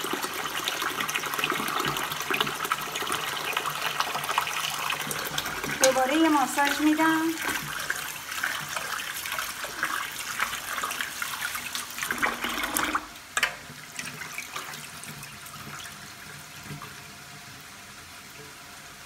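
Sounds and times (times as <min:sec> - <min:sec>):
water trickling: 0:00.0 - 0:17.5
tap water running into a pot: 0:00.0 - 0:19.0.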